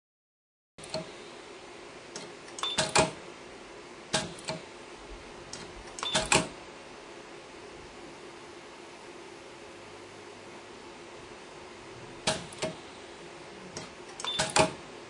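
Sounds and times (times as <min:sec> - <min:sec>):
steady low hum: 0:00.8 - 0:15.0.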